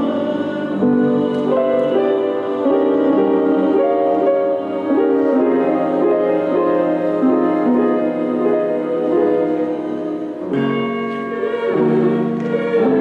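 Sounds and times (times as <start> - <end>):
slow keyboard melody: 0.0 - 13.0.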